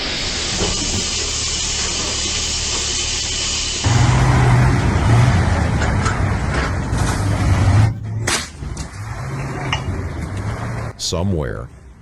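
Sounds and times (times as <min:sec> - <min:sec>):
road rush: 0:00.0 - 0:12.0
truck engine hum: 0:00.0 - 0:12.0.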